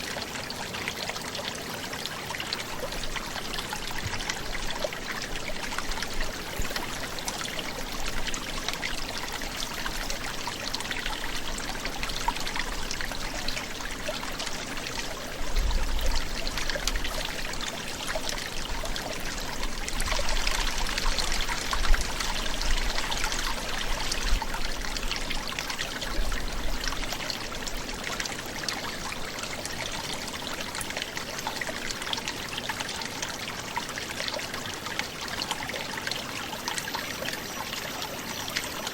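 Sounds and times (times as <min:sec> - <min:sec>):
brook gurgling: 0:00.0 - 0:38.9.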